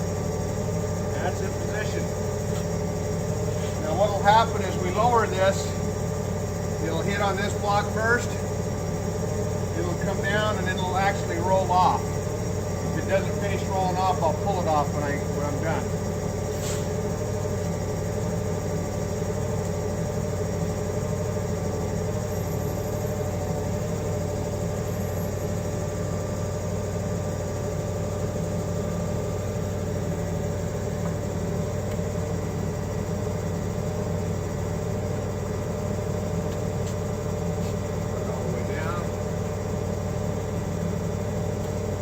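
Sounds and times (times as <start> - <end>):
forklift engine idling: 0.0 - 42.0.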